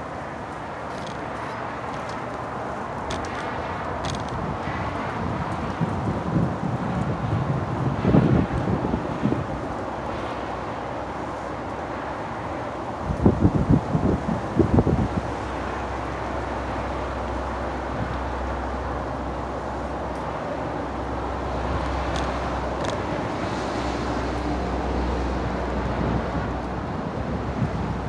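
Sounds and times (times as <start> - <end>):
wind hiss on microphone: 1.2 - 28.0.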